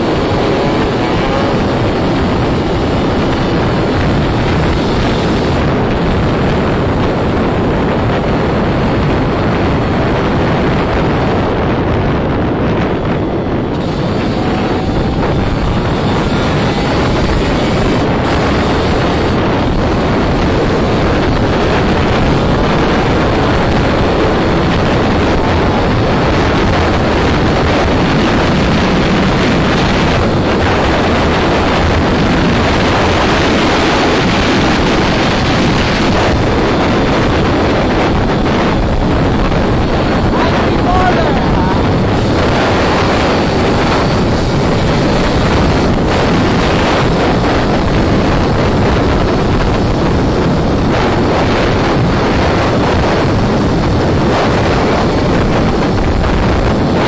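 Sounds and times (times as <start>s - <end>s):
motorbike engine at speed: 0.0s - 57.0s
wind buffeting microphone: 0.0s - 57.0s.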